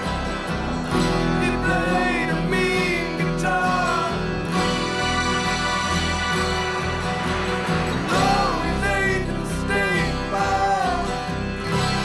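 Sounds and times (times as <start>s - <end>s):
background music with guitar: 0.0s - 12.0s.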